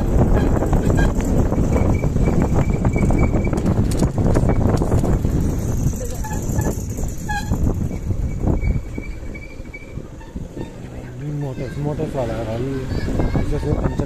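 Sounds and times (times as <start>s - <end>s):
motorcycle engine rumble: 0.0s - 14.0s
wind on microphone: 0.0s - 14.0s.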